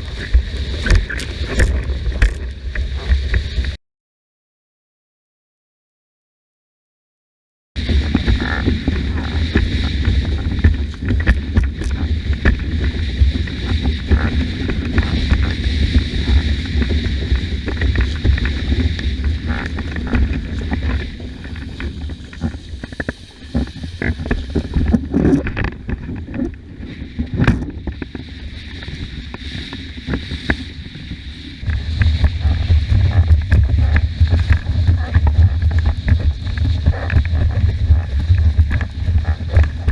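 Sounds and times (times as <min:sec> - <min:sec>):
water splashing under board: 0:00.0 - 0:03.8, 0:07.8 - 0:39.9
wind buffeting microphone: 0:07.8 - 0:39.9.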